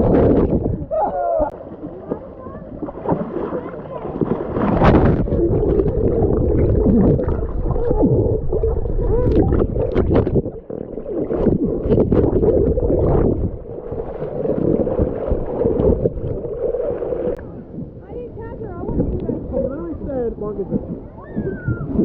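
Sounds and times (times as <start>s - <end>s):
muffled water sloshing and gurgling: 0.0s - 22.0s.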